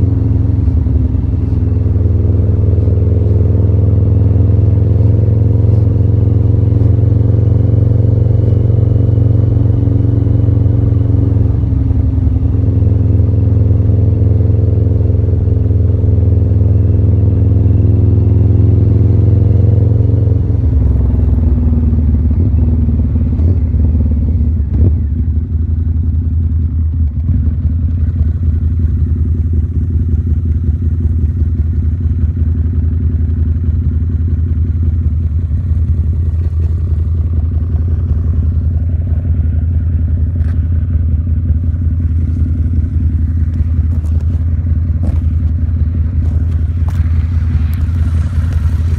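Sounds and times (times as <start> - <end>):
muffled motorcycle engine running: 0.0 - 48.9.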